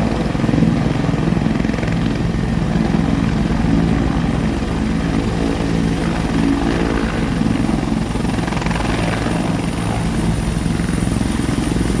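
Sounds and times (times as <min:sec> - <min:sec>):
helicopter rotor chopping: 0:00.0 - 0:12.0
turbine engines: 0:00.0 - 0:12.0.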